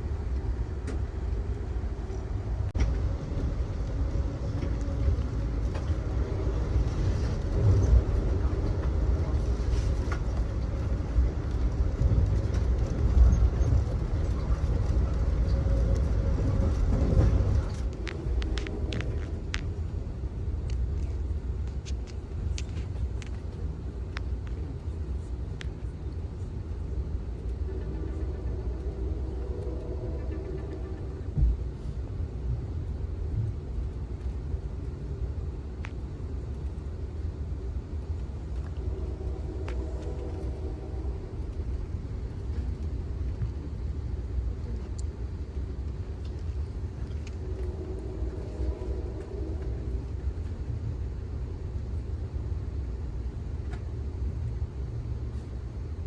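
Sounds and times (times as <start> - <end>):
train car rumbling on track: 0.0 - 56.0.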